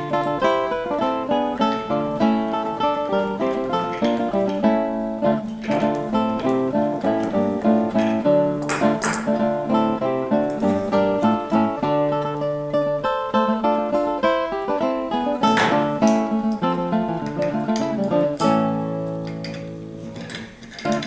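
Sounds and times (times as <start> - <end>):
plucked string instrument music: 0.0 - 21.0.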